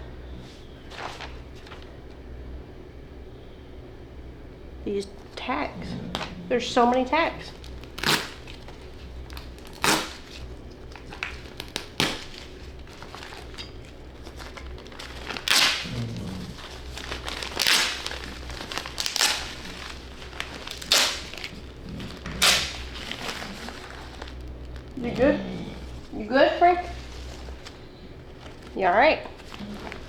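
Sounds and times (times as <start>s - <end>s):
faint low hum: 0.0s - 30.0s
fabric rasping and rustling: 5.8s - 30.0s.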